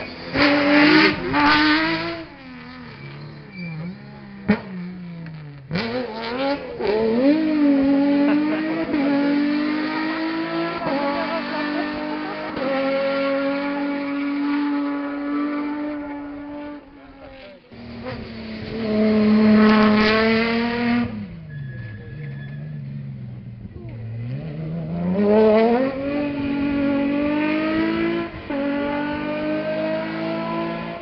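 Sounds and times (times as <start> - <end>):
rally car engine at high revs: 0.0 - 31.0.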